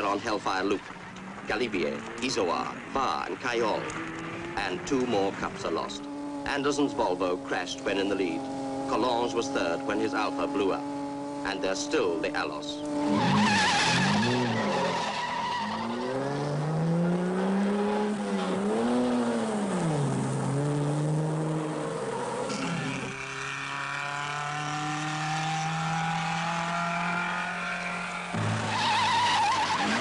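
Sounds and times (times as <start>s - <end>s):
car engine revving hard: 3.6s - 30.0s.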